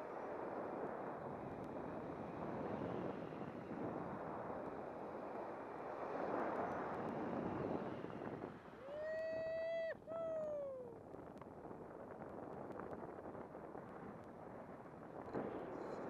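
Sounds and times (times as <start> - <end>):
wind rushing over microphone: 0.2 - 16.0.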